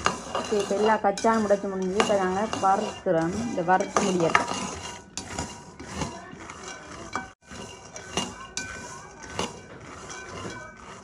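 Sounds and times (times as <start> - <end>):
peanuts rattling in a wok: 0.0 - 11.0
spatula scraping a metal pan: 0.0 - 11.0.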